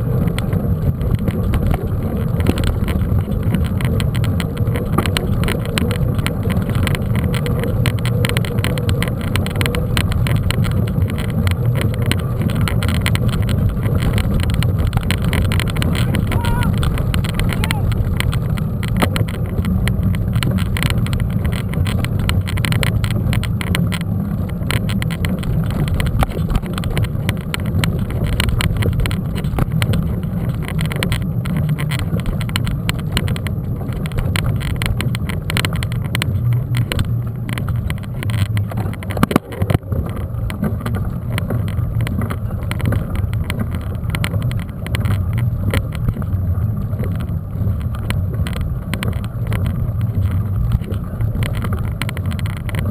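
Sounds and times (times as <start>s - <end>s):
bike rattling and knocking: 0.0s - 52.9s
wind and tyre rumble: 0.0s - 52.9s.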